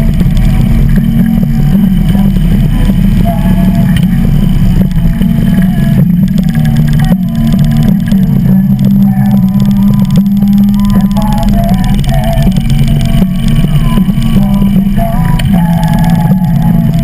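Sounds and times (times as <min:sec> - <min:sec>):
motorcycle engine rumble: 0:00.0 - 0:17.0.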